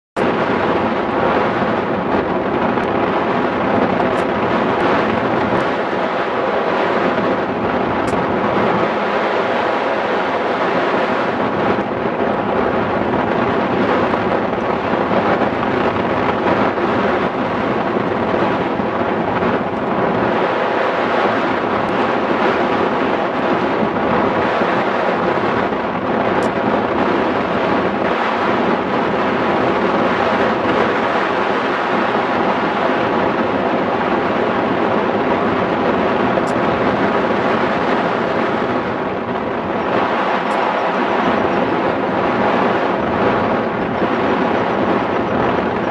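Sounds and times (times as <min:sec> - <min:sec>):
wind buffeting microphone: 0:00.2 - 0:45.9.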